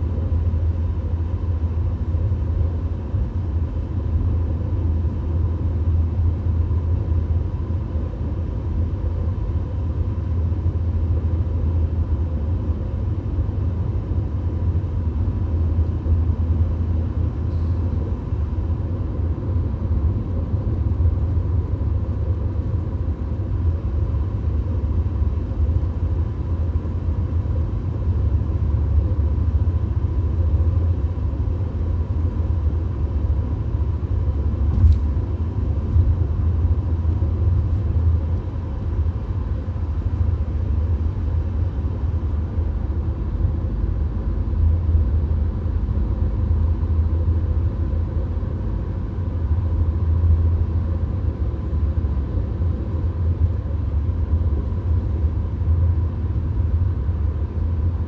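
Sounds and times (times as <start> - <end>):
faint steady hum: 0.0 - 58.0
road and engine rumble: 0.0 - 58.0.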